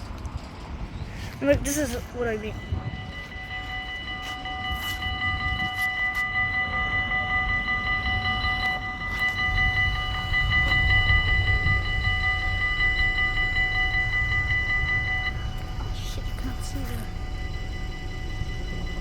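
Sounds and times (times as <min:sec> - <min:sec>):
low rumble: 0:00.0 - 0:19.0
level crossing bells ringing: 0:01.4 - 0:19.0.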